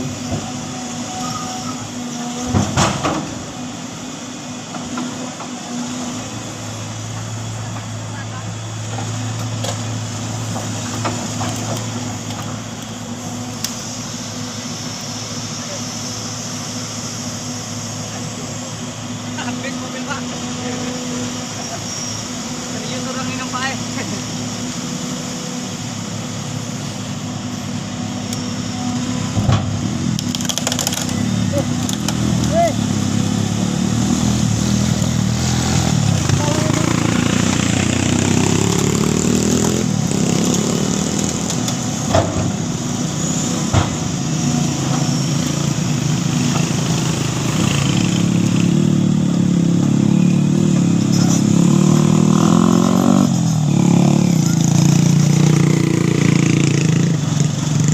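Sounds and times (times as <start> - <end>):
heavy truck engine running: 0.0 - 57.9.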